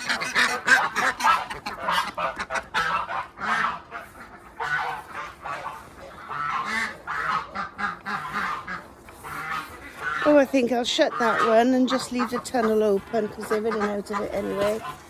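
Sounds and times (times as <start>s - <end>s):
ducks quacking: 0.0s - 15.0s
geese honking: 0.0s - 15.0s.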